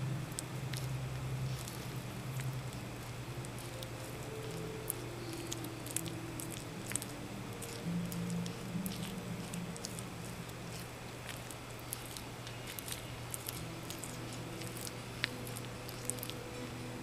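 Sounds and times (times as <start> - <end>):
lizard chewing wet crunches: 0.2 - 16.8.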